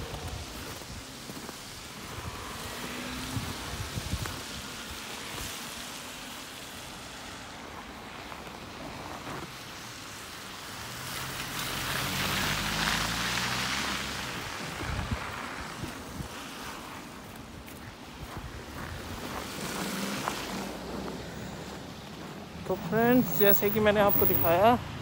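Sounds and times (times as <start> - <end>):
car passing on wet road: 0.0 - 25.0
wind and road noise hiss: 0.0 - 25.0.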